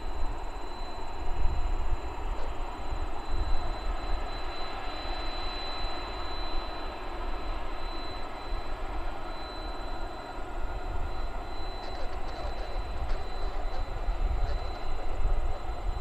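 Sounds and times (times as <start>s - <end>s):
jet engines deep rumble: 0.0s - 16.0s.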